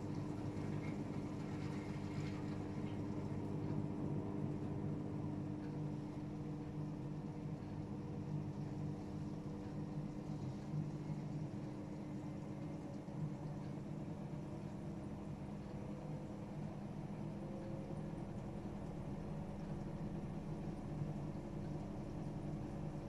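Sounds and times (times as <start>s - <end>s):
washing machine motor humming: 0.0s - 23.0s.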